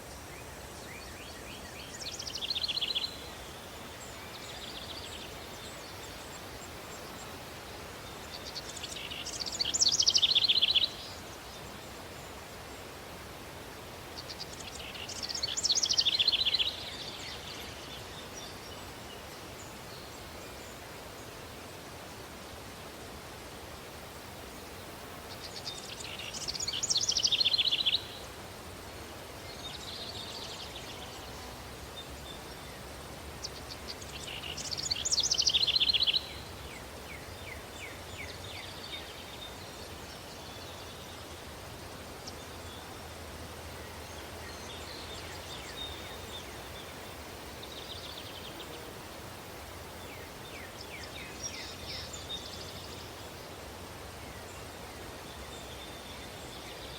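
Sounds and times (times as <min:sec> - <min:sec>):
breeze-like hiss: 0:00.0 - 0:56.9
songbirds singing: 0:00.0 - 0:56.9.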